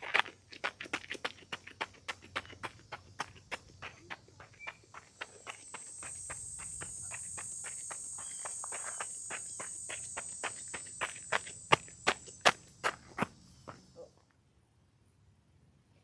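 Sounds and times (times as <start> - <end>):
running footsteps on gravel: 0.0 - 13.9
insects droning: 0.0 - 15.2.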